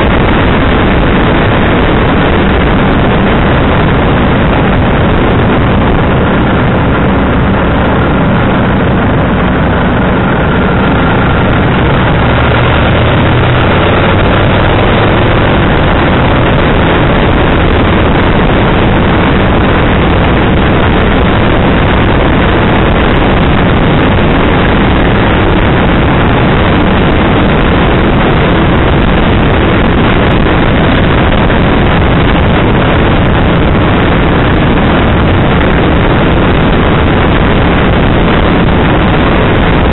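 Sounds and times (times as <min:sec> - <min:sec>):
motorcycle engine: 0:00.0 - 0:39.9
wind rushing on microphone: 0:00.0 - 0:39.9.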